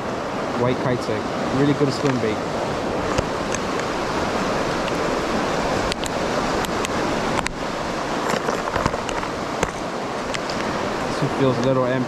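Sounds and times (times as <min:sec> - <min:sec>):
rushing turbulent water: 0:00.0 - 0:12.0.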